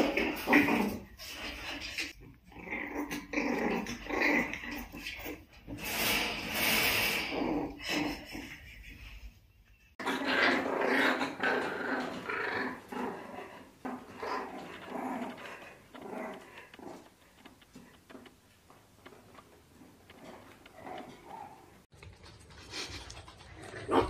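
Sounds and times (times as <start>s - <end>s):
puppies growling: 0.0s - 6.1s, 6.8s - 9.3s, 9.9s - 24.0s.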